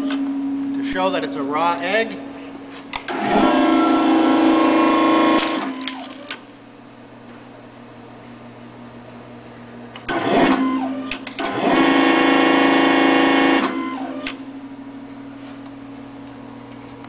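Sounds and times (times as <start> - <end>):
actuator motor whine: 0.0 - 17.0
steady low hum: 0.0 - 17.0.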